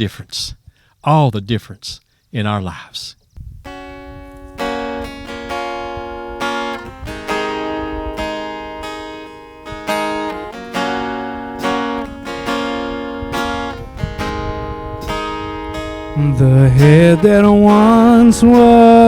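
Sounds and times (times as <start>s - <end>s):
acoustic guitar strumming chords: 3.7s - 19.0s.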